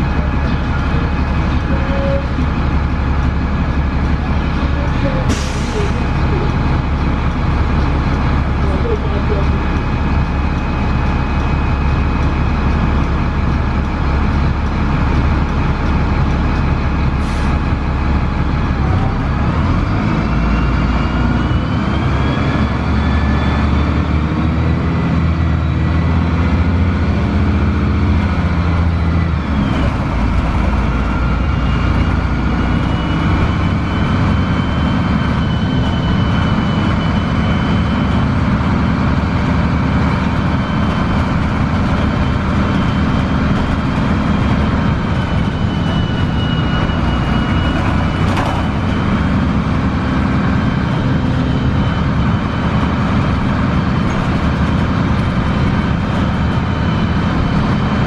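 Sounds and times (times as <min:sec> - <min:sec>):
bus engine and transmission whine: 0:00.0 - 0:58.0.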